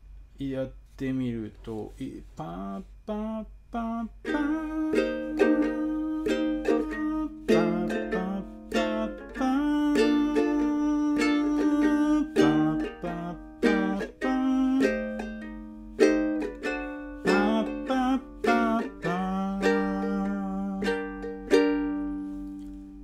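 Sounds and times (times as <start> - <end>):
ukulele strumming jazz chords: 4.2 - 23.0.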